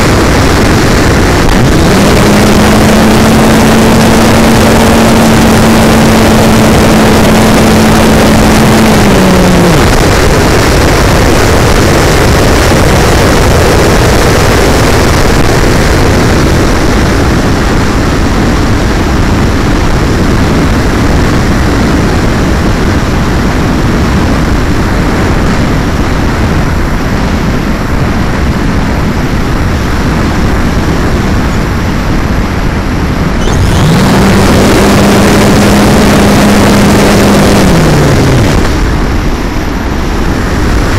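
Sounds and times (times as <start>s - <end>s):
electric motor and propeller hum: 0.0s - 23.5s, 25.3s - 40.9s
rush of airflow: 0.0s - 40.9s.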